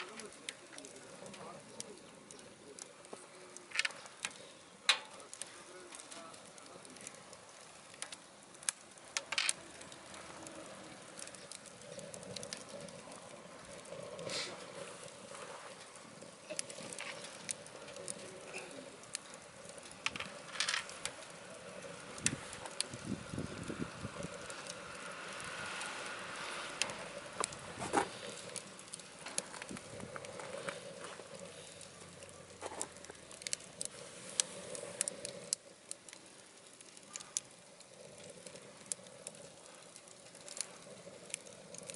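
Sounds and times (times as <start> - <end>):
low steady hiss: 0.0 - 41.9
wood fire crackling and popping: 0.0 - 41.9.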